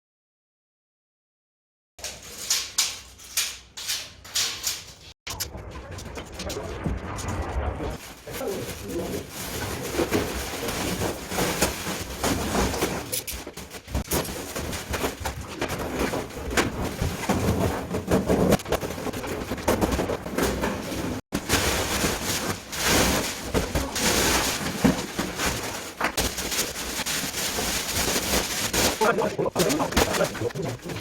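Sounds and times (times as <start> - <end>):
knocks and clatter: 2.0 - 31.0.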